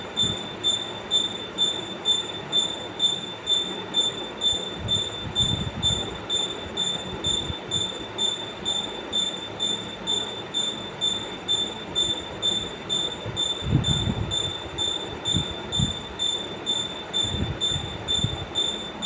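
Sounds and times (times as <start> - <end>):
pulsing high-pitched squeal: 0.0 - 19.0.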